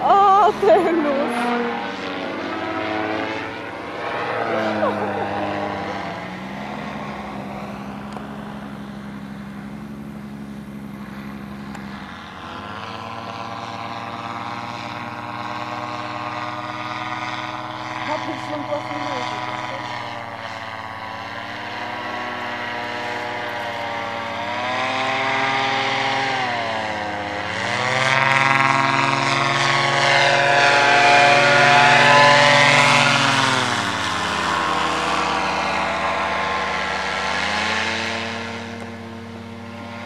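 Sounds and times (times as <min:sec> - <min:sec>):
paraglider engine and propeller droning: 0:00.0 - 0:40.0.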